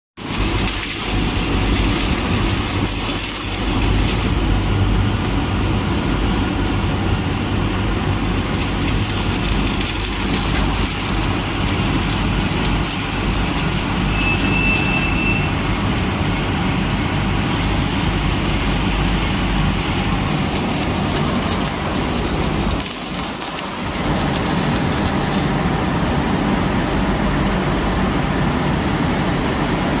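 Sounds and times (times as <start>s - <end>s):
industrial machinery hum and hiss: 0.2s - 30.0s.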